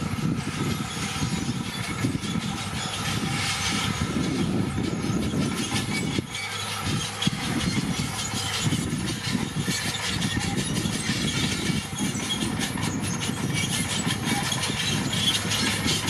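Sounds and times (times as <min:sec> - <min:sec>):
bulldozer diesel engine running: 0:00.0 - 0:16.0
steel tracks clanking: 0:00.0 - 0:16.0.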